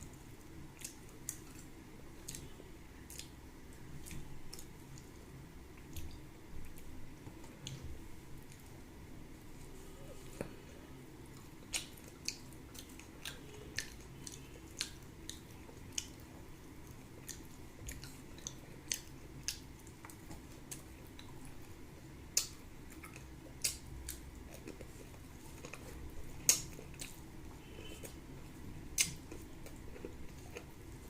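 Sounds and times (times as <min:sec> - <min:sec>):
person chewing: 0:00.1 - 0:05.1, 0:09.6 - 0:31.0.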